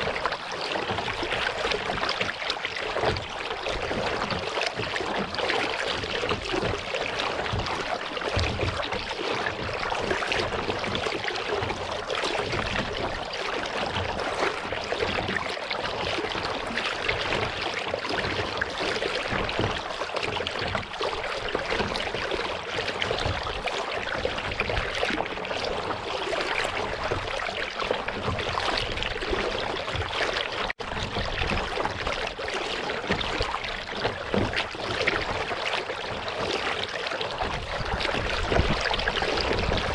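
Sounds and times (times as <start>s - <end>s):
water splashing around kayak: 0.0s - 39.9s.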